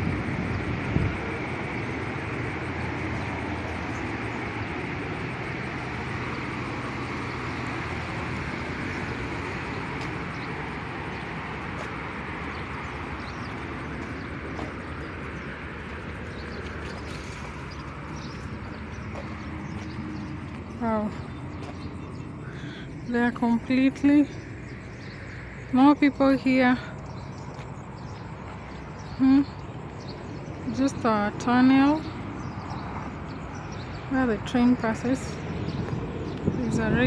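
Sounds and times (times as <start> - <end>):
distant vehicle rumble: 0.0 - 37.0.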